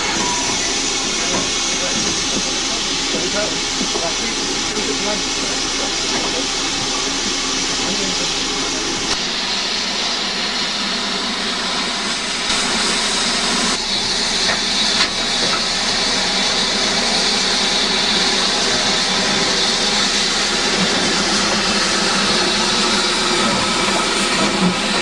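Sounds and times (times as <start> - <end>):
steam locomotive hissing: 0.0 - 25.0.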